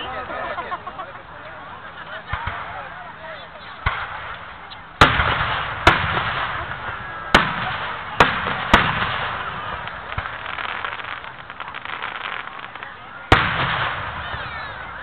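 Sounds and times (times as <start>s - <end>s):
fireworks booming overhead: 1.3s - 15.0s.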